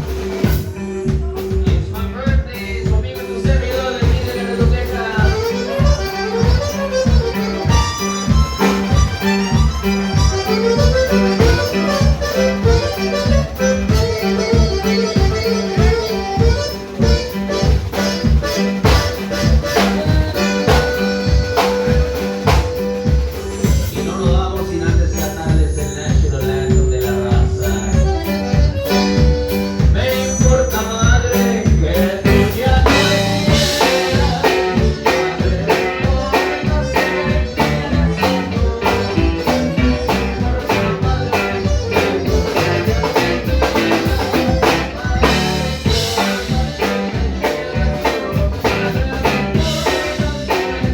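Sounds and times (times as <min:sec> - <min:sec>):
drum kit steady beat: 0:00.0 - 0:50.9
live band playing: 0:00.0 - 0:50.9.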